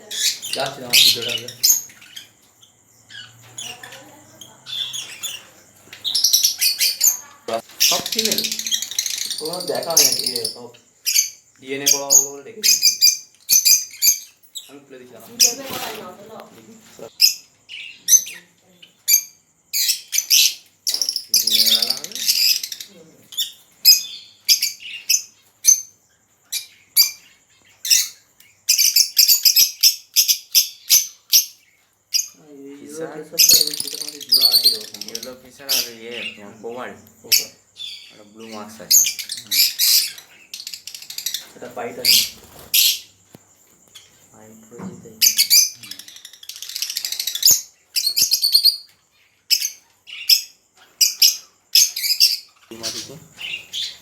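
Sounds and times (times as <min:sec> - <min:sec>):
birds chirping and chattering: 0:00.0 - 0:54.0.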